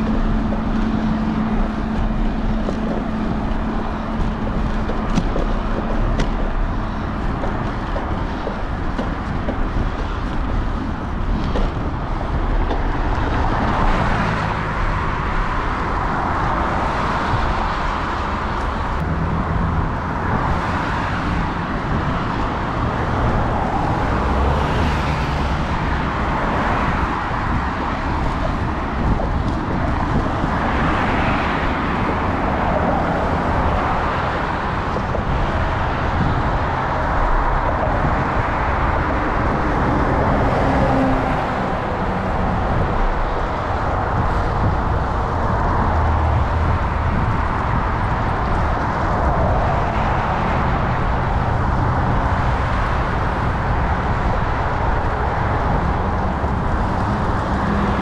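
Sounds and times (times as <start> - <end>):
cars passing on a wet road: 0.0 - 58.0
low traffic rumble: 0.0 - 58.0.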